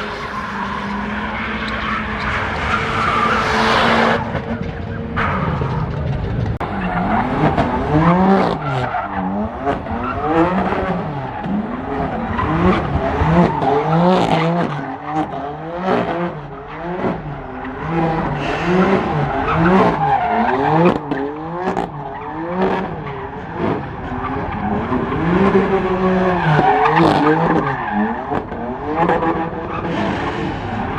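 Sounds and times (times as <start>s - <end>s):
car engine revving: 0.0s - 30.9s
tyres skidding: 0.0s - 30.9s.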